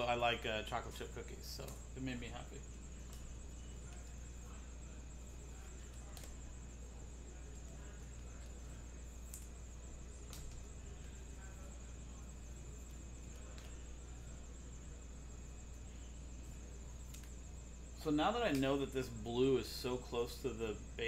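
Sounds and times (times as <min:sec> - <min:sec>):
faint high-pitched whine: 0:00.0 - 0:21.0
low electrical hum: 0:00.0 - 0:21.0.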